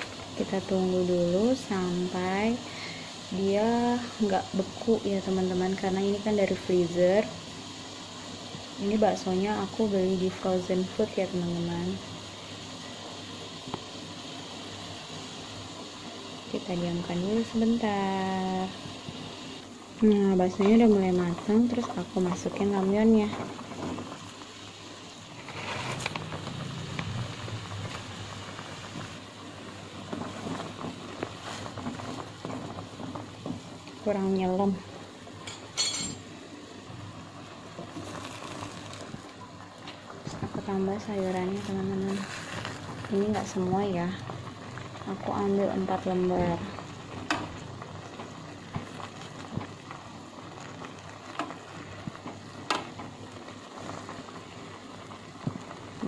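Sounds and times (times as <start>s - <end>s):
broth boiling: 0.0s - 56.0s.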